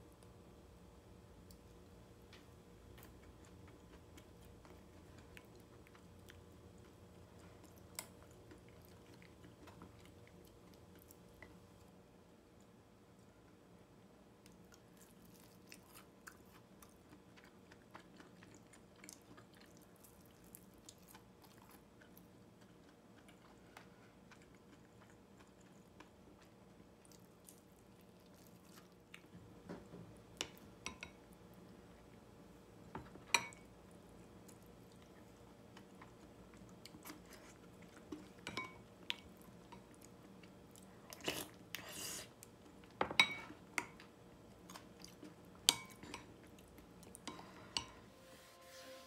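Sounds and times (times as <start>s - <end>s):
faint steady hum: 0.0s - 49.0s
quiet chewing: 1.4s - 13.6s, 14.4s - 48.0s.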